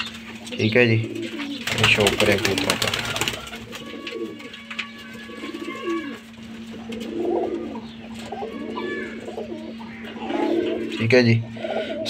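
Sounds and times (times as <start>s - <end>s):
pigeons cooing: 0.0s - 12.0s
steady low hum: 0.0s - 12.0s.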